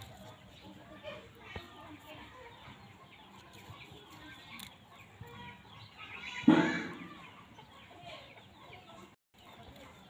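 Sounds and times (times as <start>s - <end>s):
chickens clucking: 0.0s - 10.0s
small birds chirping: 0.0s - 10.0s.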